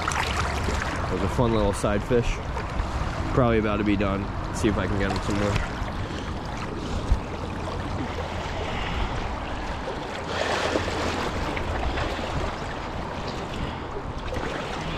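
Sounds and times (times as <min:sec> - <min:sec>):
flowing river current: 0:00.0 - 0:14.9.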